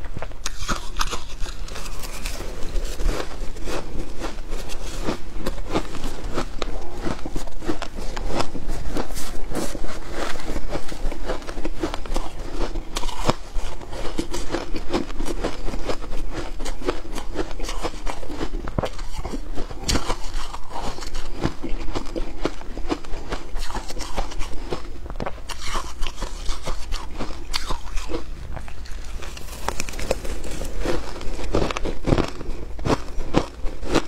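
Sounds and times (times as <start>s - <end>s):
ice being chewed and crunched: 0.0s - 34.0s.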